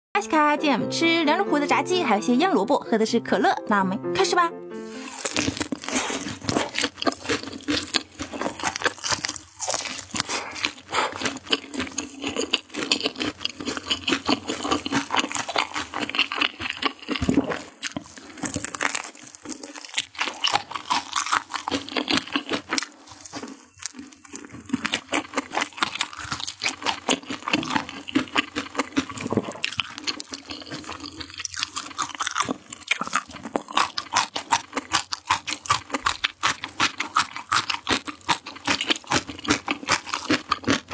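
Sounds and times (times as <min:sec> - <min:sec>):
crunching fried food: 0:04.9 - 0:40.9
wet chewing: 0:04.9 - 0:40.9
biting pickled radish: 0:05.0 - 0:40.9.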